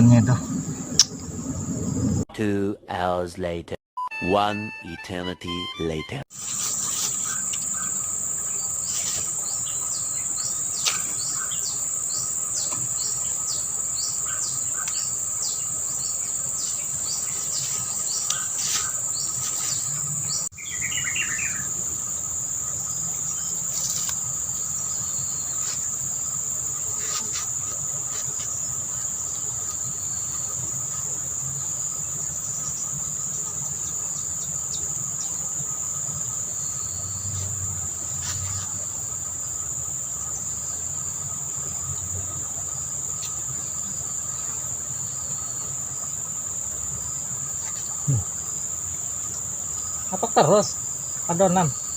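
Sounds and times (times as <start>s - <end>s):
insects buzzing drone: 0.0s - 2.3s, 6.4s - 51.9s.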